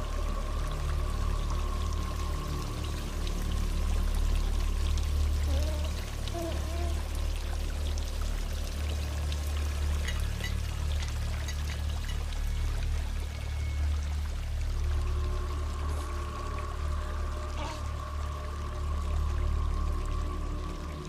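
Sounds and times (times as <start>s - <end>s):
water drips: 0.0s - 21.0s
water pouring and splashing: 0.0s - 21.0s.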